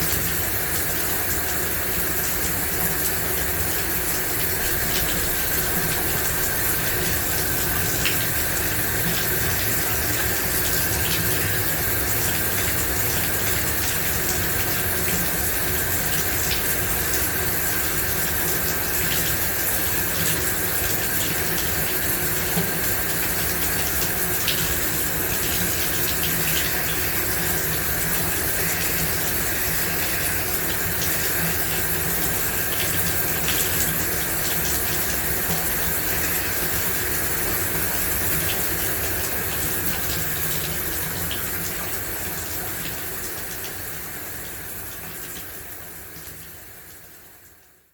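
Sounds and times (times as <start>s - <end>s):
shower running: 0.0s - 47.9s.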